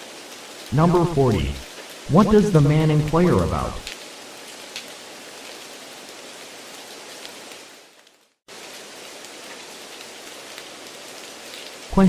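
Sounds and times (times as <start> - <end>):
rain-like background hiss: 0.0 - 12.0.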